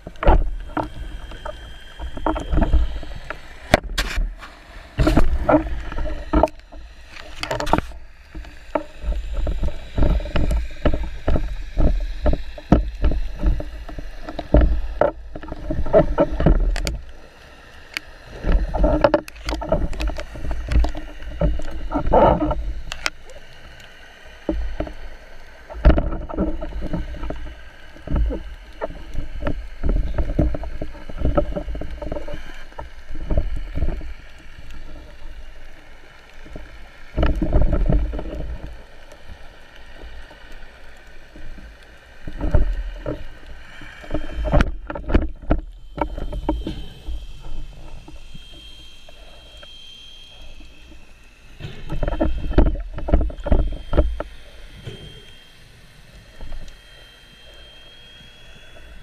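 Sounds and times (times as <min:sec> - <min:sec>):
faint high whine: 0:00.0 - 0:59.0
seawater sloshing around camera: 0:00.0 - 0:59.0.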